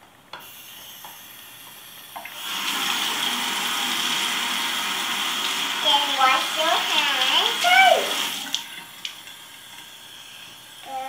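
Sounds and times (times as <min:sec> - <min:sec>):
faucet water running into basin: 0:00.4 - 0:11.0.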